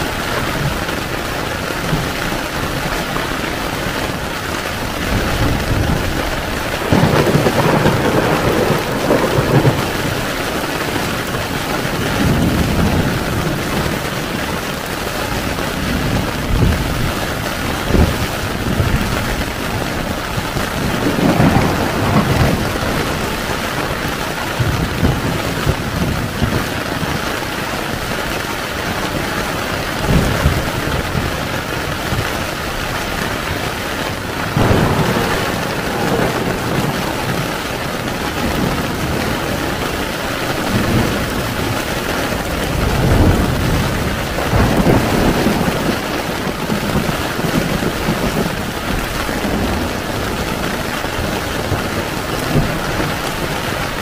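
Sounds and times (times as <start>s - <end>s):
thunder rolling: 0.0s - 28.2s, 28.8s - 54.0s
heavy rain on a tent: 0.0s - 54.0s.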